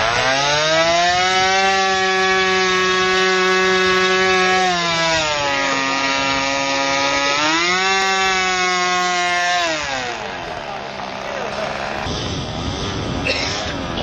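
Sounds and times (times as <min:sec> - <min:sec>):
model jet engine running: 0:00.0 - 0:14.0.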